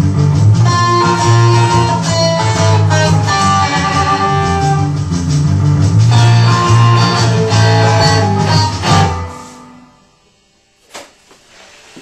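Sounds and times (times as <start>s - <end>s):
electric guitar surf instrumental: 0.0s - 10.0s.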